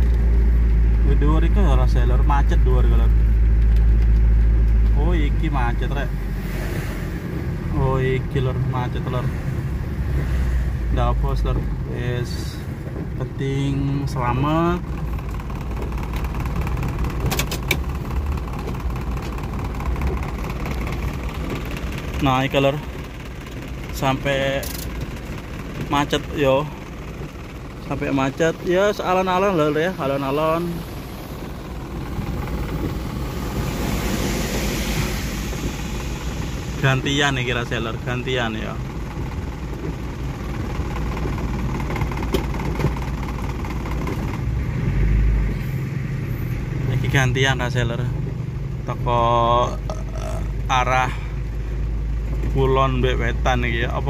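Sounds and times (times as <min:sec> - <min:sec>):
road noise: 0:00.0 - 0:54.0
vehicle engines idling: 0:00.0 - 0:54.0.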